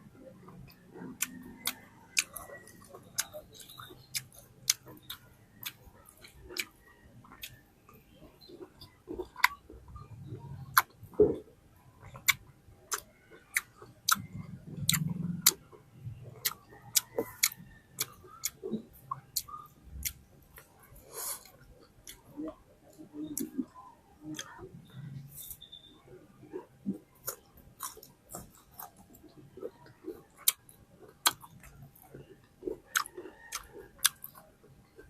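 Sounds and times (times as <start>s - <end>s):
soft chewing: 0.0s - 35.0s.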